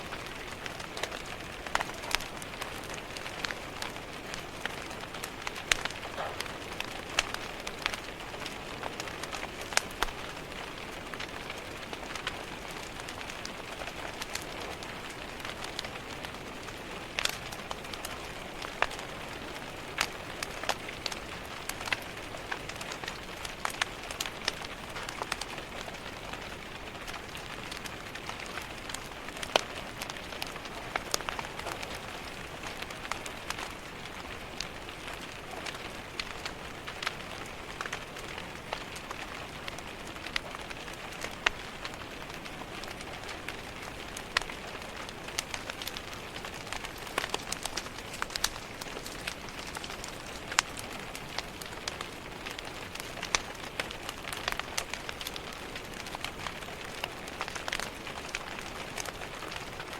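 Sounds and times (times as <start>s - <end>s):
rain pattering on window glass: 0.0s - 59.9s
wood fire crackling: 0.0s - 59.9s.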